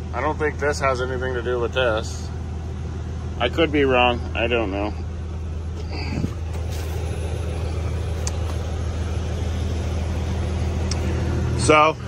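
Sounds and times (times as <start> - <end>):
air conditioning blower: 0.0 - 12.0
diesel truck engine idling: 0.0 - 12.0.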